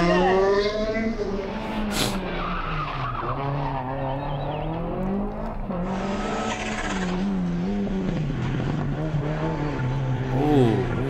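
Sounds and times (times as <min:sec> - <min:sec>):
rally car engines revving: 0:00.0 - 0:11.0.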